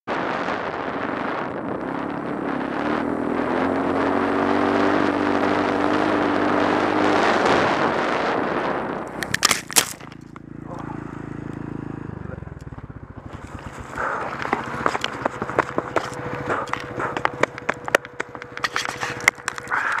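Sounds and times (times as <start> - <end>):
wind noise: 0.1 - 10.3, 13.2 - 20.0
dirt bike engine: 0.1 - 20.0.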